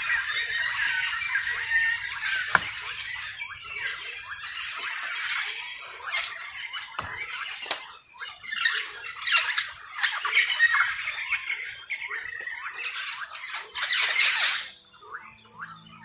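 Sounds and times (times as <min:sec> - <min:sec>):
steady high-pitched whine: 0:00.0 - 0:16.0
wild birds calling and squawking: 0:00.0 - 0:16.0.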